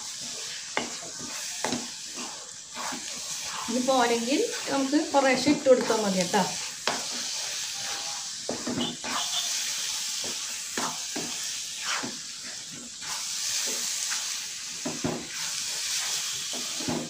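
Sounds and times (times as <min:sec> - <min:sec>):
spatula scraping pan: 0:00.0 - 0:17.0
steady hiss: 0:00.0 - 0:17.0.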